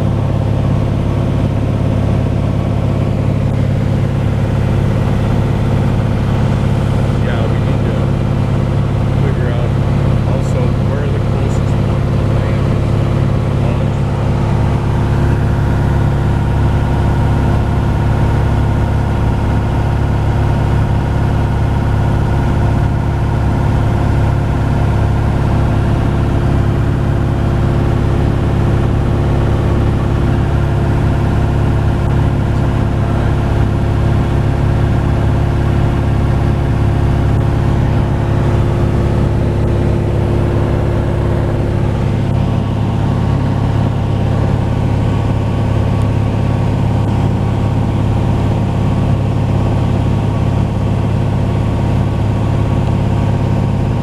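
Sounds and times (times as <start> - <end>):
aircraft engine and propeller: 0.0 - 54.0.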